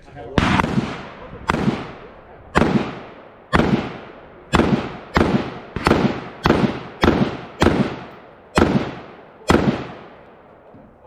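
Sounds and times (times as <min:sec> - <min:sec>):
rapid gunshots: 0:00.4 - 0:10.2.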